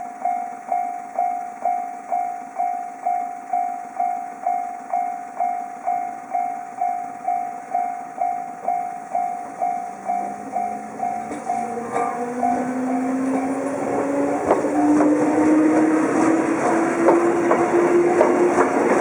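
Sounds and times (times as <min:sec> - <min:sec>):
level-crossing warning bell: 0:00.0 - 0:19.0.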